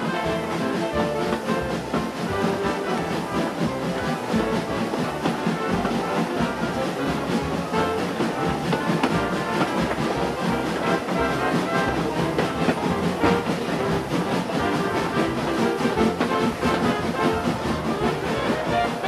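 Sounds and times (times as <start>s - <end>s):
background instrumental music: 0.0s - 19.0s.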